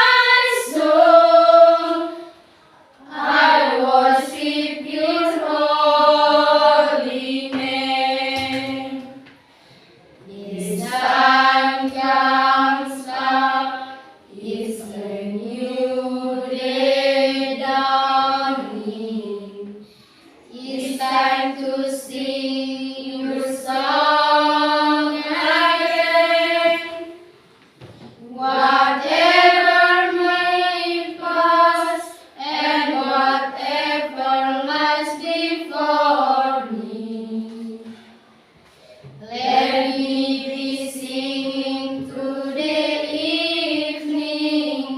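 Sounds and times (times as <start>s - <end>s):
group singing a cappella: 0.0s - 38.2s, 39.0s - 44.9s.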